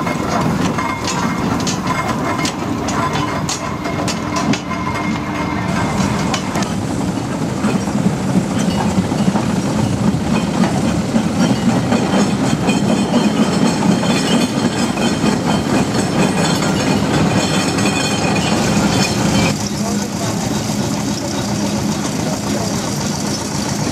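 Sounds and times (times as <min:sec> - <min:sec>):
steam roller engine clatter: 0:00.0 - 0:23.9.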